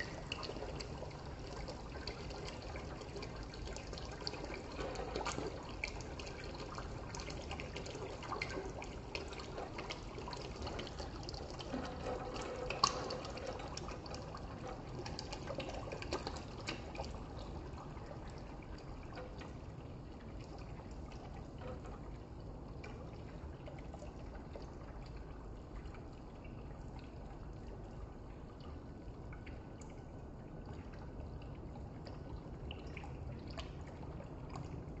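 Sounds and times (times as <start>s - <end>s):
water pouring and trickling: 0.0s - 35.0s.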